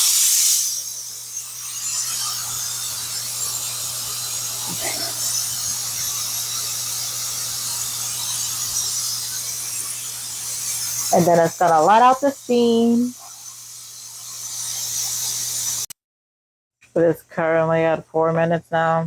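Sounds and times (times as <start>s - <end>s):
pressure cooker steam hissing: 0.0s - 15.9s.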